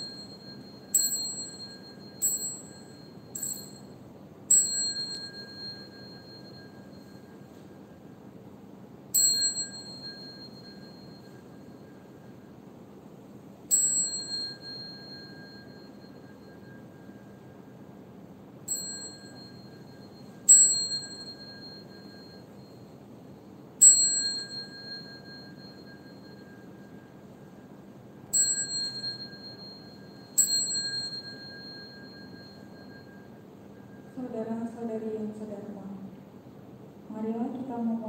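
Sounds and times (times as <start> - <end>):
small metal bell ringing: 0.0 - 8.3, 9.1 - 12.6, 13.7 - 34.3.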